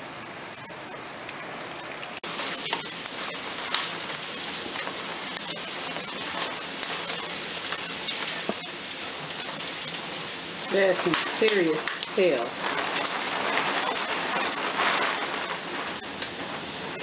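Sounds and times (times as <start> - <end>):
steady hiss of rain: 0.0 - 17.0
hailstones tapping on door: 2.2 - 17.0.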